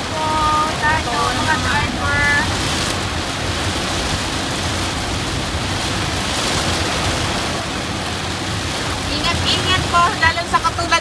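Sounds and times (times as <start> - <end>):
heavy rain on car windshield: 0.0 - 11.0.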